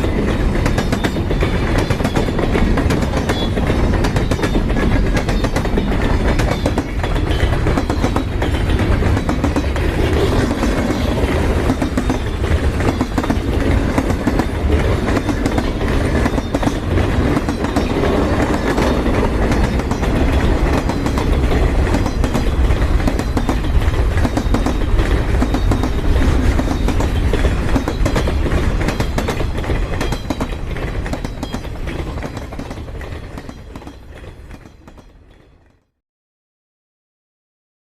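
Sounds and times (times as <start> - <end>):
heavy train rumbling: 0.0 - 35.7
rapid clicks of train wheels: 0.0 - 35.9.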